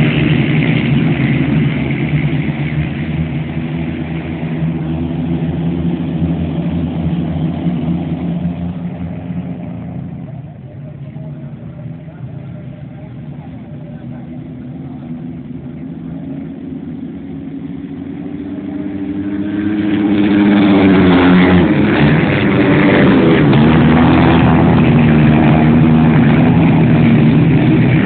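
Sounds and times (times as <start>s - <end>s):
racing motorcycle engines revving: 0.0s - 28.0s.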